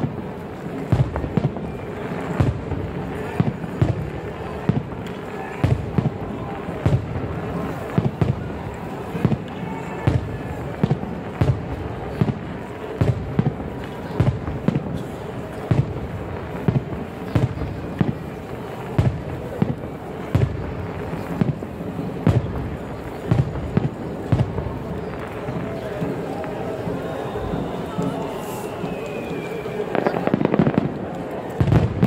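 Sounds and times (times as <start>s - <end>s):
crowd murmur: 0.0s - 32.0s.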